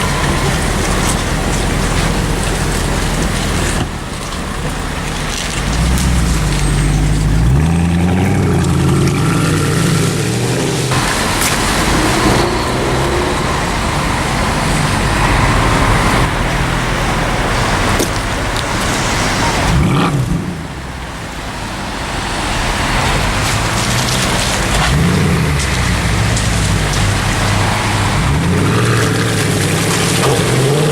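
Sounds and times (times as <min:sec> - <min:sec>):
road noise: 0:00.0 - 0:30.9
sports car engine accelerating: 0:00.0 - 0:30.9.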